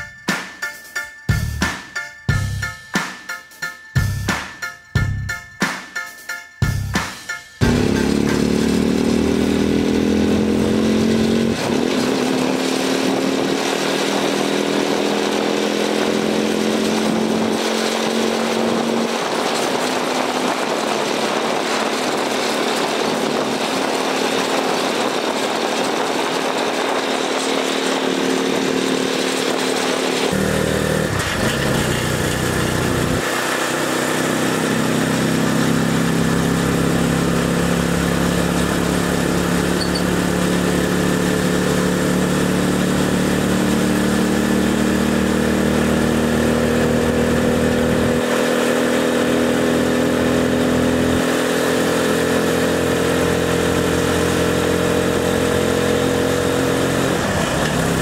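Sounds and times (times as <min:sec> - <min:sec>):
motorcycle engine running: 0:07.6 - 0:58.0.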